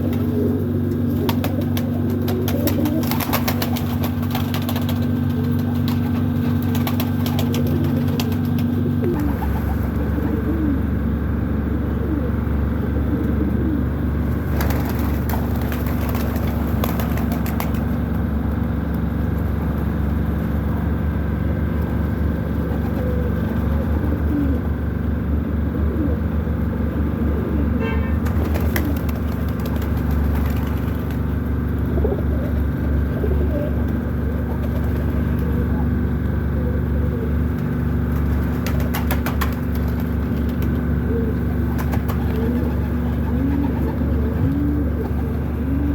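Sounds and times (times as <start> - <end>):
pigeons cooing: 0.0 - 18.2, 21.6 - 45.9
steady low hum: 0.0 - 45.9.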